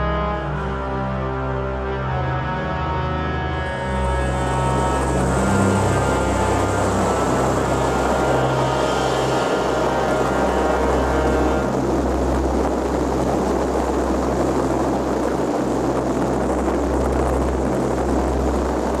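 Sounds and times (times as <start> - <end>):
boat motor running: 1.8 - 19.0
water and wind hiss: 3.7 - 19.0.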